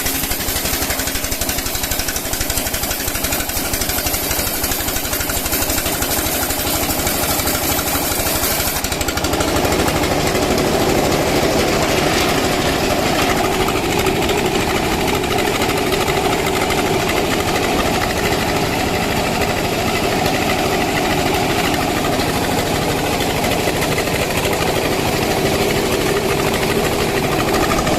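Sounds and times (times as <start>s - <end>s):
wood saw rattling: 0.0s - 27.9s.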